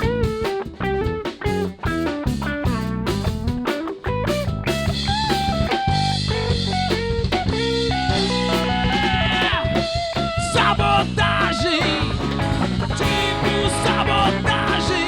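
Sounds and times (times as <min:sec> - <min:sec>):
drum kit with cymbals: 0:00.0 - 0:15.0
electric guitar chords and notes: 0:00.0 - 0:15.0.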